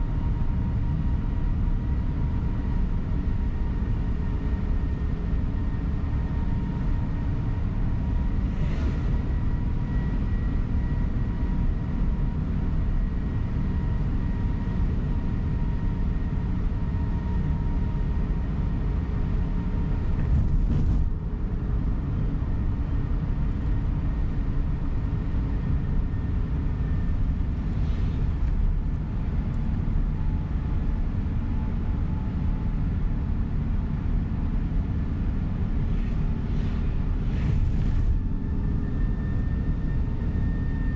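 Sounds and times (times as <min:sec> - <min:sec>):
coach engine and road rumble: 0:00.0 - 0:40.9.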